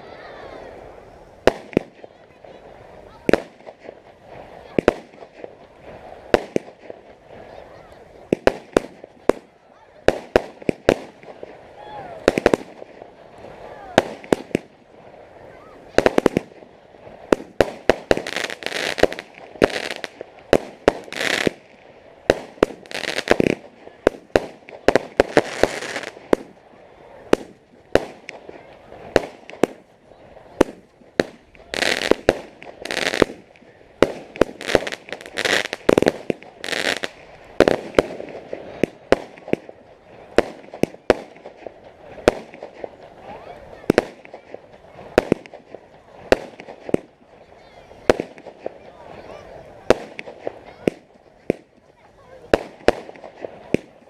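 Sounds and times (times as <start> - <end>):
fireworks bangs: 0.0 - 54.0
fireworks crackle: 0.0 - 54.0.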